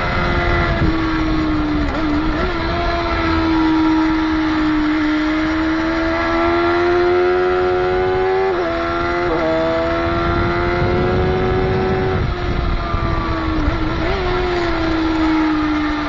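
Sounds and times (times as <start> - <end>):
motorcycle engine at high revs: 0.0 - 16.0
wind noise on microphone: 0.0 - 16.0.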